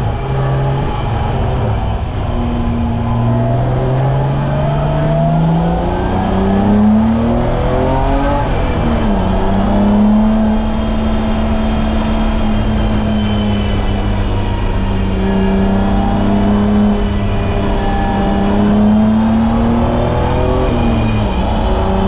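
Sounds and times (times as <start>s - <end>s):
car engine under load: 0.0s - 22.0s.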